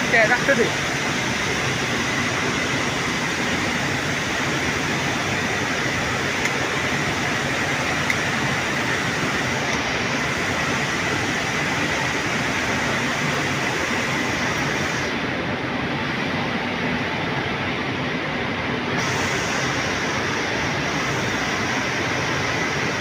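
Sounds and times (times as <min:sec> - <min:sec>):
factory machinery rushing noise: 0:00.0 - 0:23.0
faint high whine: 0:00.0 - 0:23.0.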